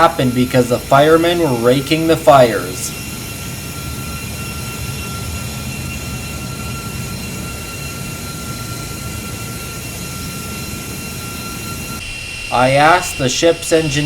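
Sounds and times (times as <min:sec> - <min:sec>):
fans whining: 0:00.0 - 0:14.0
low machinery rumble: 0:00.0 - 0:14.0.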